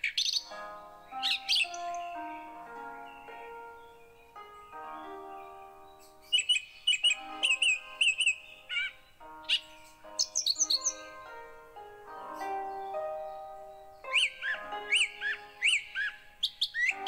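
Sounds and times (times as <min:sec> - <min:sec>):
bird chirps: 0:00.0 - 0:17.0
instrumental background music: 0:00.0 - 0:17.0.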